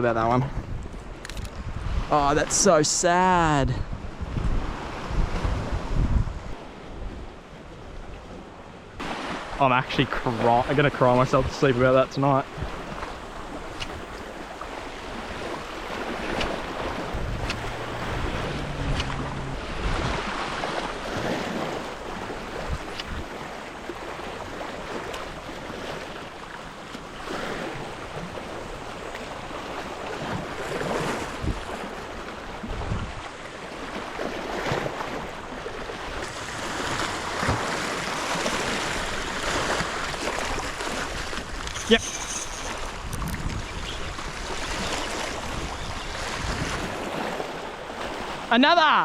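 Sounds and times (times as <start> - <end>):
wind rumbling on microphone: 0.0 - 9.5, 12.4 - 48.4
sea waves washing: 0.0 - 49.0.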